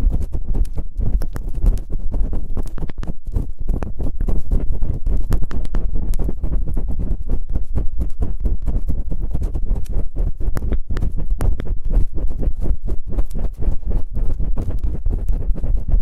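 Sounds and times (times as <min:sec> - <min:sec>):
scraping on microphone: 0:00.0 - 0:16.0.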